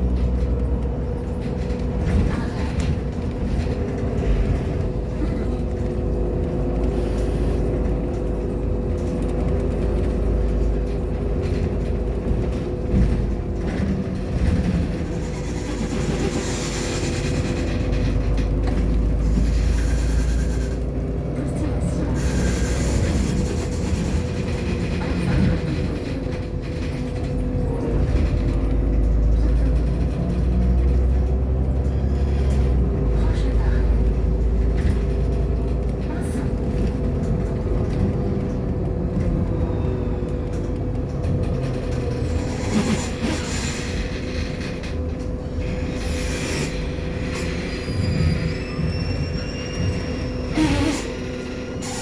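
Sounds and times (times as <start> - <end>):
bus engine droning: 0.0 - 52.0
road rumble: 0.0 - 52.0.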